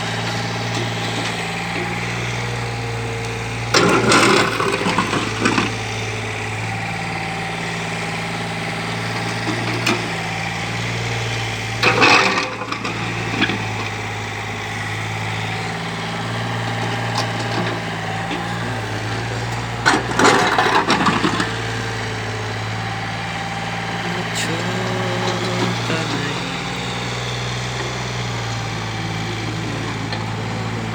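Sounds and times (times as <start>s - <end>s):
excavator diesel engine running: 0.0s - 30.9s
rattling scraping of excavator: 0.0s - 30.9s.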